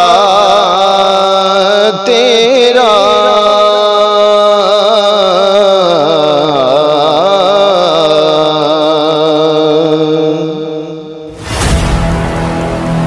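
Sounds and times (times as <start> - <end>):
man singing: 0.0 - 11.3.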